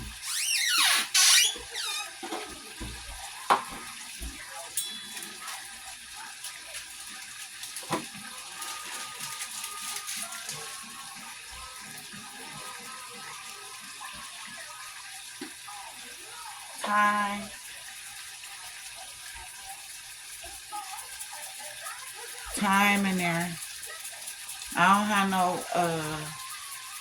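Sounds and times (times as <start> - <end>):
water running from tap into sink: 0.0 - 27.0.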